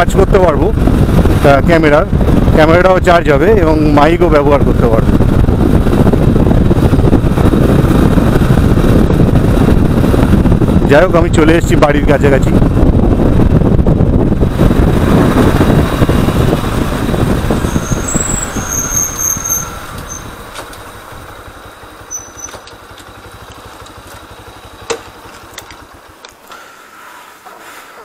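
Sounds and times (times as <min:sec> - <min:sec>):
wind noise: 0:00.0 - 0:26.0
motorcycle engine: 0:00.7 - 0:28.0.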